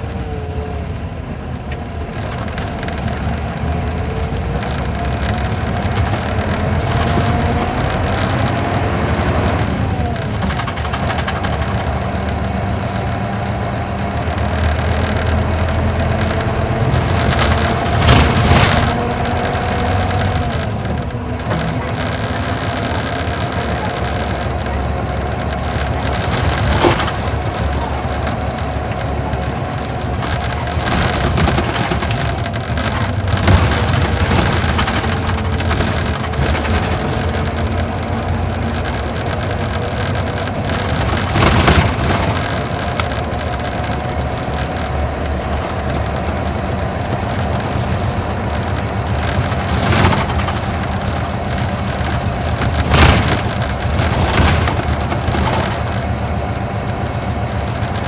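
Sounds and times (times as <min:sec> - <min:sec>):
bus diesel engine running: 0:00.0 - 0:58.0
road noise: 0:00.0 - 0:58.0
thumps over bumps: 0:01.7 - 0:58.0.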